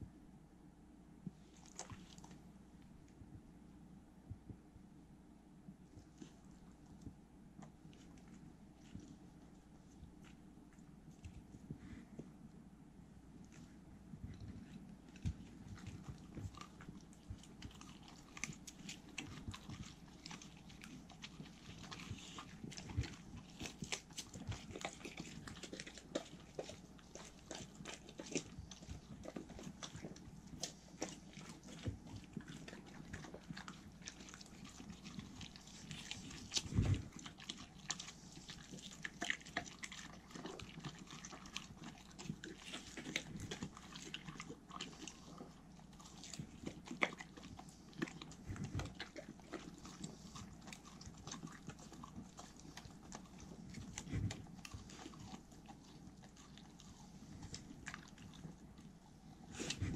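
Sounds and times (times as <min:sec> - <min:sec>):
dogs chewing: 0:01.3 - 0:02.5, 0:05.8 - 0:12.4, 0:13.2 - 0:59.9.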